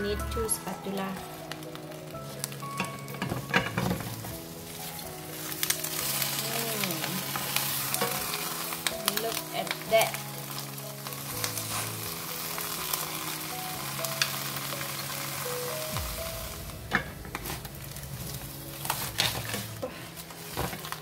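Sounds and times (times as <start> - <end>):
fish sizzling in grill pan: 0.0 - 21.0
soft background music: 0.0 - 21.0.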